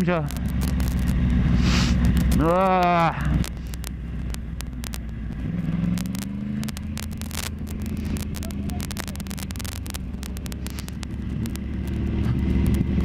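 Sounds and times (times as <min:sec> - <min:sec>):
motorcycle engine running: 0:00.0 - 0:13.0
wind rustling on microphone: 0:00.0 - 0:13.0.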